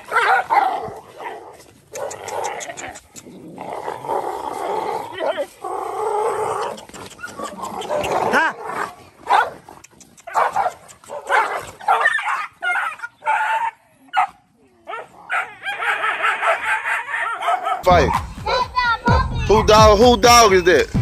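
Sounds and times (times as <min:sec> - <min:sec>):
dogs barking and yelping: 0:00.0 - 0:03.4, 0:04.6 - 0:19.1.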